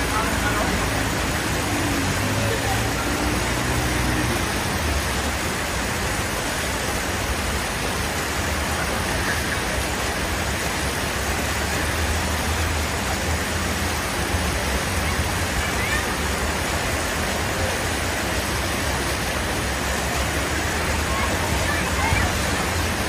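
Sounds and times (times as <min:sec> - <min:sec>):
loud rushing noise: 0:00.0 - 0:23.0
low engine hum: 0:00.0 - 0:23.0.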